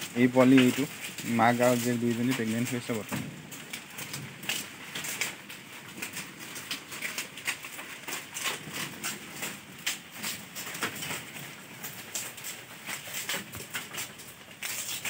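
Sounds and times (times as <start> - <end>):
goats rustling fodder: 0.0 - 15.0.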